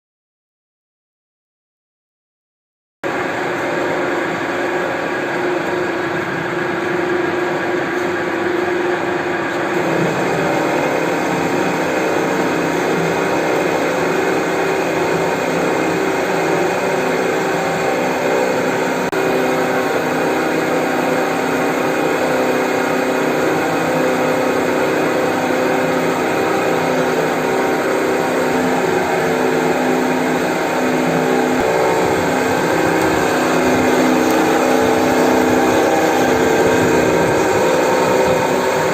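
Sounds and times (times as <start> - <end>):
metal-cutting bandsaw running: 3.1 - 38.9.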